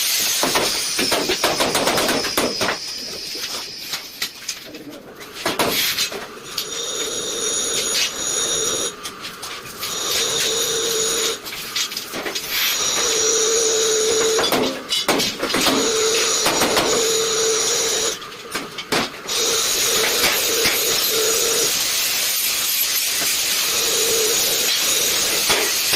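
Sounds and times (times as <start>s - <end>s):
arc welding crackle: 0.0s - 25.9s
high welding whine: 0.0s - 25.9s.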